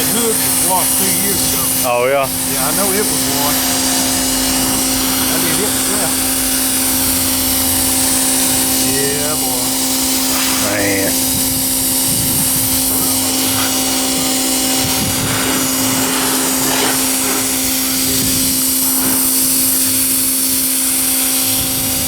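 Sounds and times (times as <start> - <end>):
pressure washer motor hum: 0.0 - 22.0
water spraying hiss: 0.0 - 22.0.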